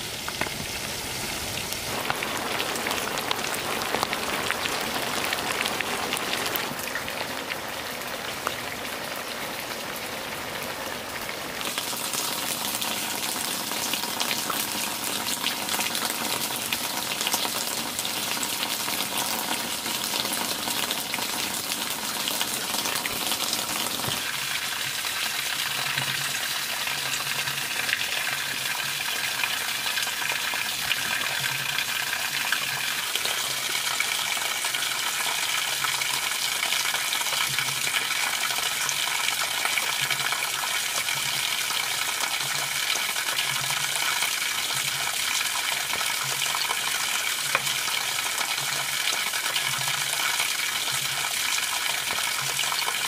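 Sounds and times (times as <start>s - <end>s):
fat sizzling in a pan: 0.0s - 7.2s, 11.6s - 53.0s.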